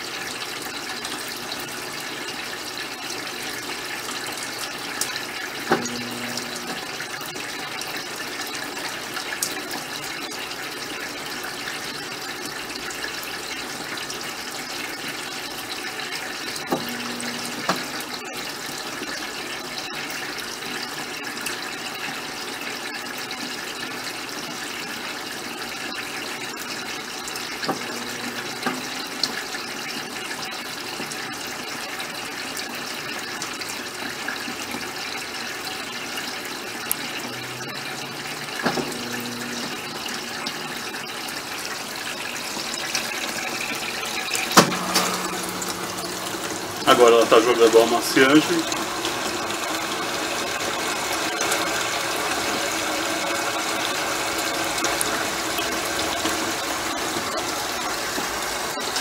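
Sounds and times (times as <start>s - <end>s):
washer motor hum with clunk: 0.0s - 59.0s
water pouring into washing machine: 0.0s - 59.0s.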